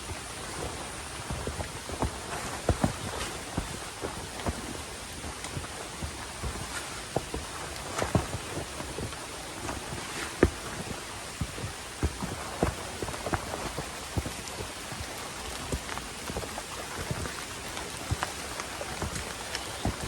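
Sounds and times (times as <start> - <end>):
raindrops tapping nearby: 0.0 - 20.0
steady rain falling: 0.0 - 20.0.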